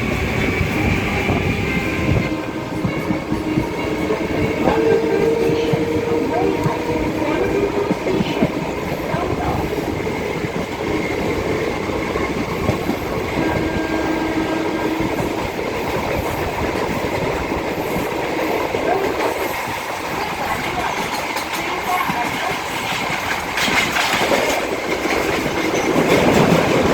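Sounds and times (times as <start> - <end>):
train wheels on track rattling: 0.0 - 26.9.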